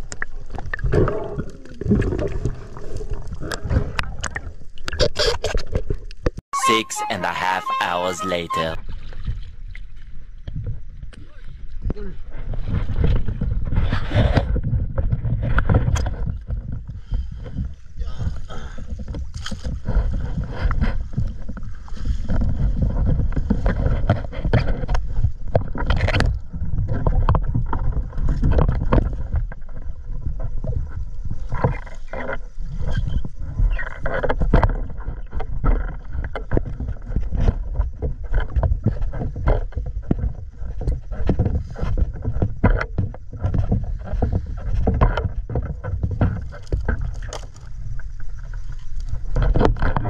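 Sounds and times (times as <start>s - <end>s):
wind on microphone: 8.6s - 50.0s.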